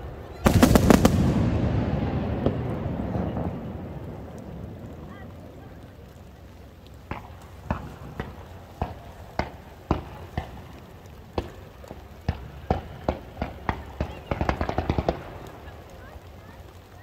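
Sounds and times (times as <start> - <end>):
fireworks sharp reports: 0.0 - 16.6.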